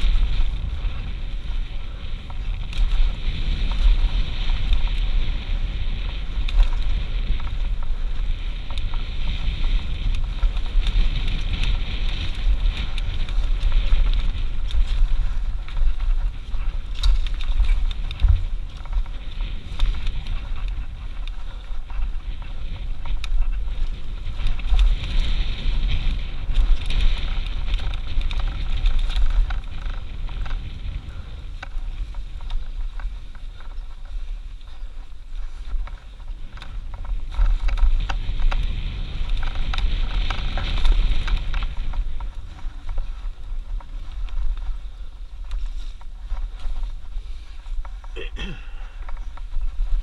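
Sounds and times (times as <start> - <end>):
bike clicks and rattles: 0.0 - 50.0
wind and tyre rush: 0.0 - 50.0.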